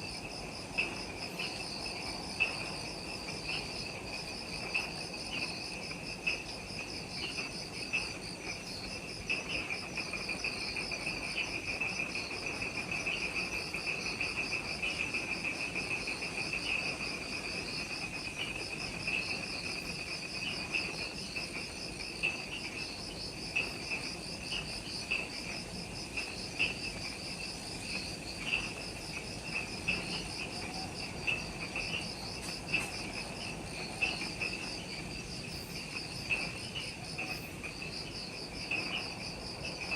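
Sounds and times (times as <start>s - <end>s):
insect chirps: 0.0s - 39.9s
insect drone: 0.0s - 39.9s
insects trilling: 0.0s - 39.9s.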